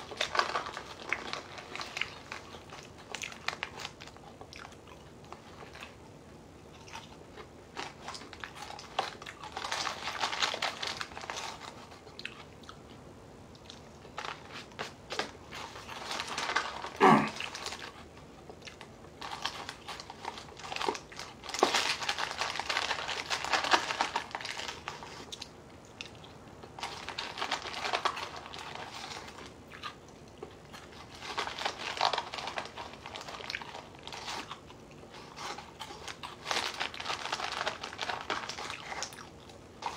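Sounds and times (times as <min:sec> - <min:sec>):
cereal crunching and chewing: 0:00.0 - 0:39.9.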